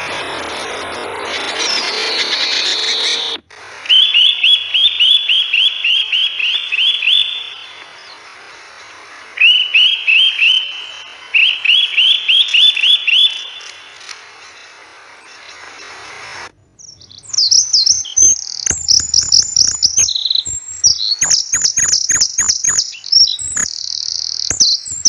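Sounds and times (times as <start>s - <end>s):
rising chirping calls: 0.0s - 25.0s.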